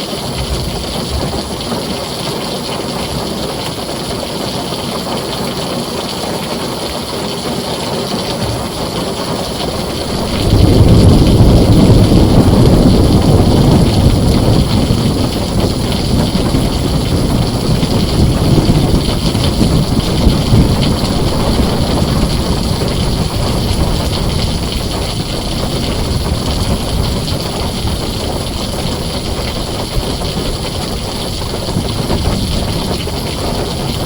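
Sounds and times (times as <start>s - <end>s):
heavy rain on a tin roof: 0.0s - 34.0s
rolling thunder rumble: 0.2s - 3.6s, 8.2s - 34.0s.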